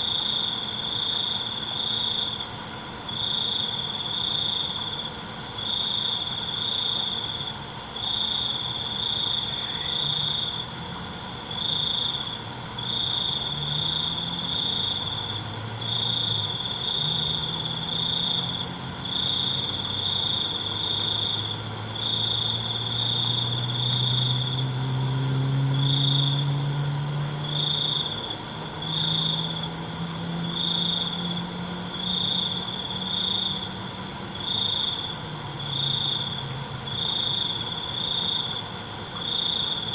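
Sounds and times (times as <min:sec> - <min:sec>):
crickets chirping: 0:00.0 - 0:39.9
fast insect trill: 0:00.0 - 0:39.9
steady high insect ringing: 0:00.0 - 0:39.9.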